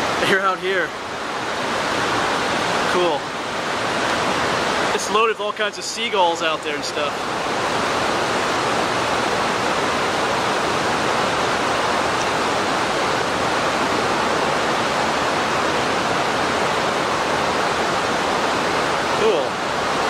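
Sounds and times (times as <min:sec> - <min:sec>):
rushing flowing water: 0:00.0 - 0:20.0.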